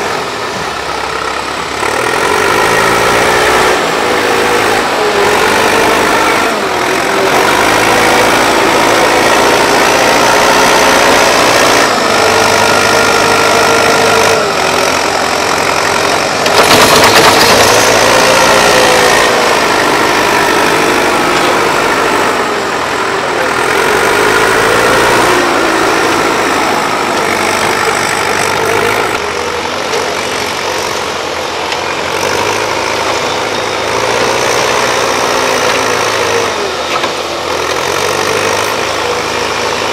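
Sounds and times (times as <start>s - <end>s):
excavator diesel engines: 0.0s - 39.9s
loud rush of noise: 1.8s - 37.5s.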